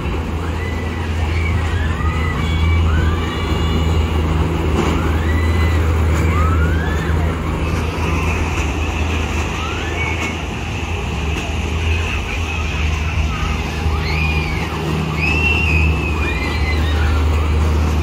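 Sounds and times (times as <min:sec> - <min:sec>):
high-pitched wails: 0:00.0 - 0:18.0.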